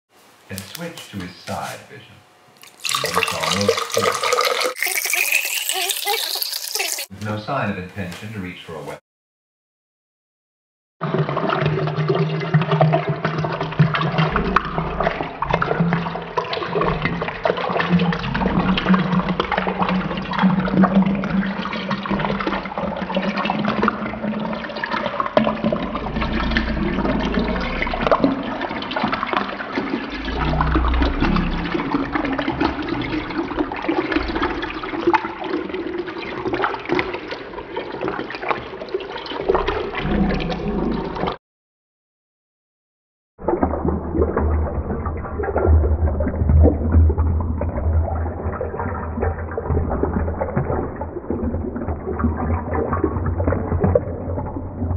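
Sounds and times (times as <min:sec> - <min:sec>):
slowed water pouring into glass: 0:02.6 - 0:07.1, 0:11.0 - 0:41.4, 0:43.4 - 0:54.9.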